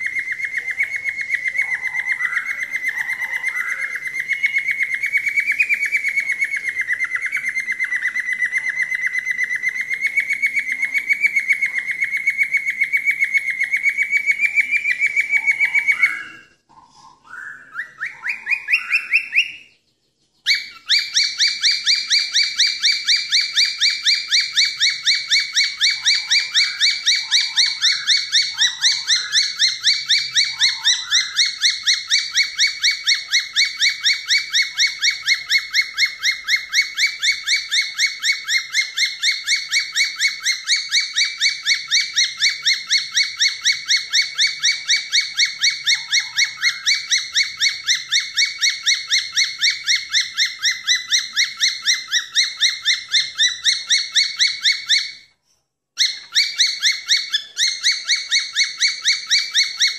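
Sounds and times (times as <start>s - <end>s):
cockatiel whistling a trill: 0.0s - 19.8s, 20.4s - 55.4s, 56.0s - 59.9s.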